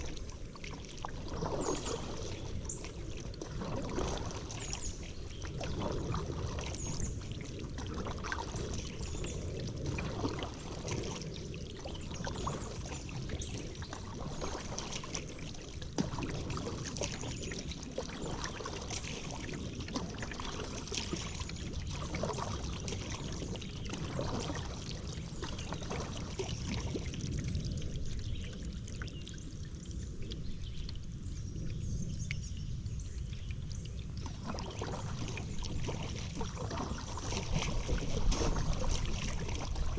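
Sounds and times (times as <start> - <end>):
paddle strokes through water: 0.0 - 39.9
water trickling off paddle: 0.0 - 39.9.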